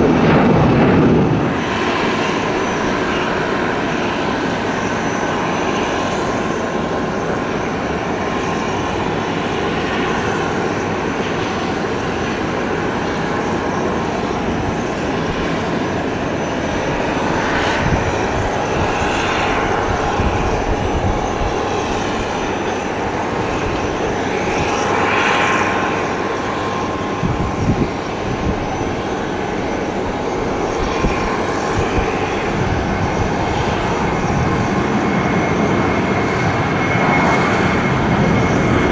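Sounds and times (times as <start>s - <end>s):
airliner engines running: 0.0s - 38.9s
engine whine: 0.0s - 38.9s.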